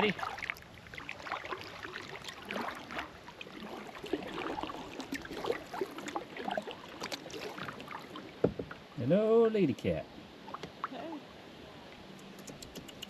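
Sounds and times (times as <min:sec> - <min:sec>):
water lapping and dripping: 0:00.0 - 0:09.1, 0:10.4 - 0:13.0.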